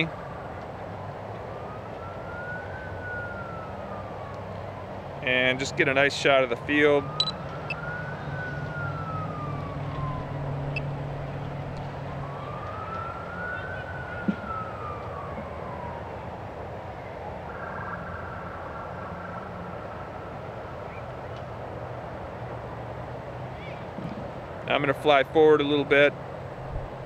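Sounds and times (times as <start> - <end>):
distant siren wailing: 0.0 - 23.6, 26.2 - 27.0.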